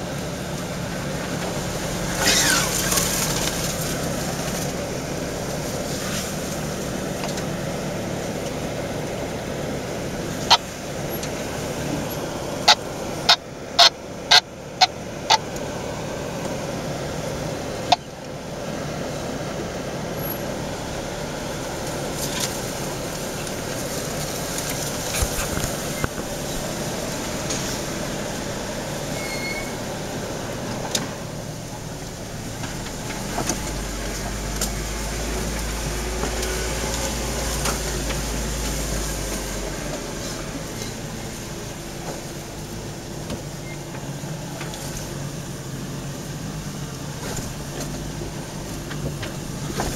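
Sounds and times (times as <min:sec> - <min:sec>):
off-road engine crawling: 0:00.0 - 0:49.9.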